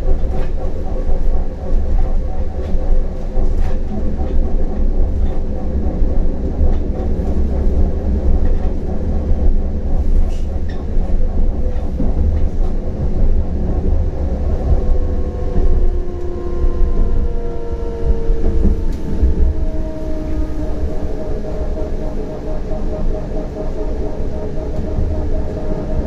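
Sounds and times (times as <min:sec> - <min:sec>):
tram rumbling: 0:00.0 - 0:26.0.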